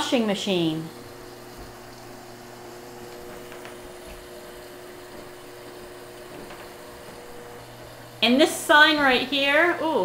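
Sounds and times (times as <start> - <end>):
washing machine hum: 0.0 - 10.0.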